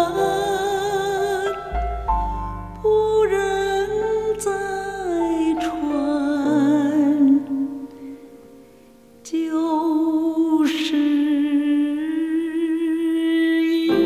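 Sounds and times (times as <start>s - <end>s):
slow ballad song: 0.0s - 14.0s.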